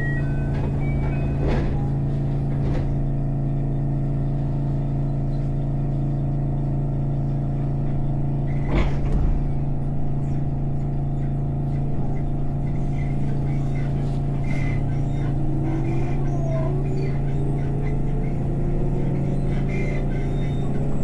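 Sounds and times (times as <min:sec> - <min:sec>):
electric train hum: 0:00.0 - 0:21.0.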